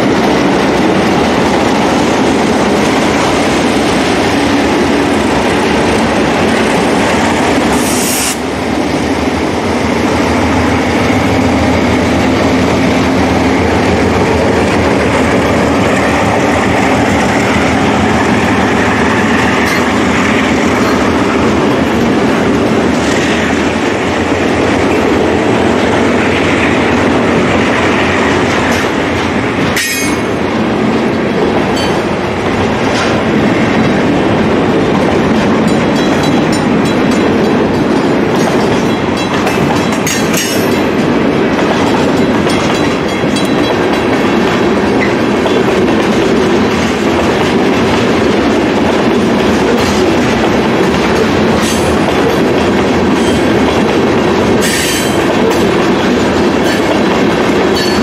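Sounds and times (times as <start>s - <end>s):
clickety-clack over rail joints: 0.0s - 58.0s
train wheels rumbling on rails: 0.0s - 58.0s.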